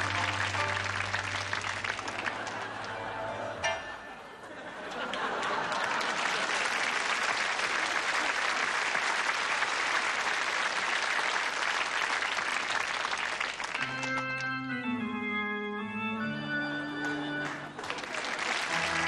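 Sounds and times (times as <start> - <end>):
audience applauding: 0.0 - 3.6, 4.8 - 14.5, 16.8 - 19.0.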